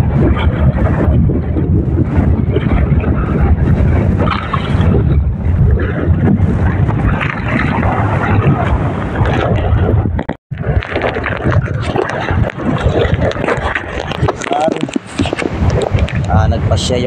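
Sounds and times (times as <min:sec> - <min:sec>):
strong wind buffeting microphone: 0:00.0 - 0:17.0
waves washing against boat: 0:00.0 - 0:17.0.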